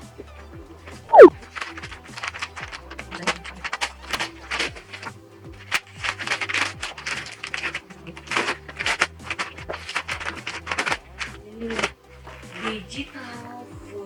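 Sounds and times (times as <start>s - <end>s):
background music with bass line: 0.0s - 14.0s
gift packaging clicks and rustling: 0.0s - 14.0s.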